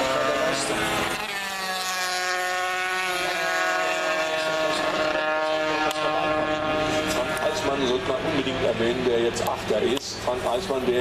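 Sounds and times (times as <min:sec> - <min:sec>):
racing motorcycle engine: 0:00.0 - 0:11.0.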